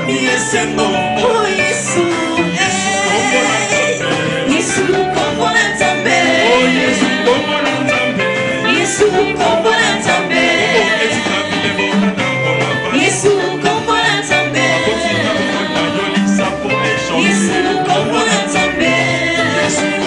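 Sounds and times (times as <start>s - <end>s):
drums: 0.0s - 20.0s
electric guitar: 0.0s - 20.0s
keyboard: 0.0s - 20.0s
woman singing into microphone: 0.9s - 12.1s, 12.8s - 20.0s.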